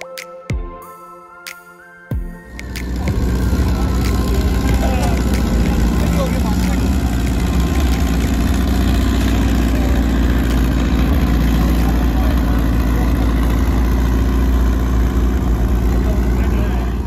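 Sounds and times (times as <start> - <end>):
car engine idling: 2.5 - 17.0.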